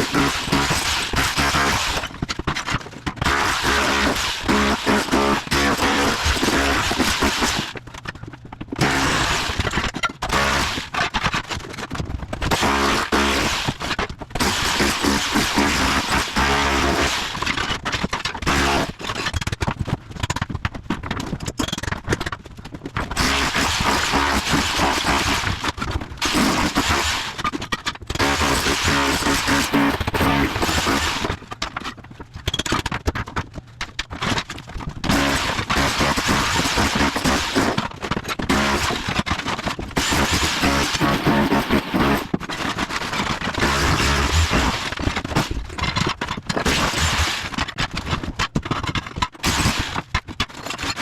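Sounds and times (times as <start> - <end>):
breaking tile scraping and cracking: 0.0 - 51.0
rotary hammer chiselling tile: 0.0 - 51.0.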